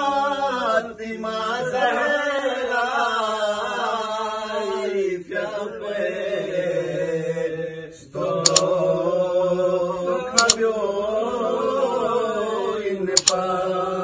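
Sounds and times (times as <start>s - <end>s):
man chanting unaccompanied: 0.0s - 14.0s.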